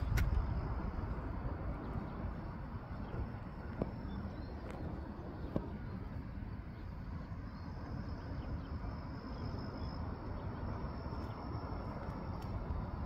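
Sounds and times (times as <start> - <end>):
low rumble of outdoor air: 0.0 - 13.0.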